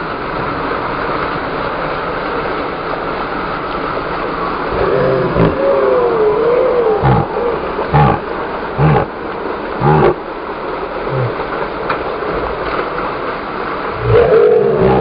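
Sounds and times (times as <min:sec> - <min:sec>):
engine running with deep pulses: 0:00.0 - 0:15.0
water rushing: 0:00.0 - 0:15.0.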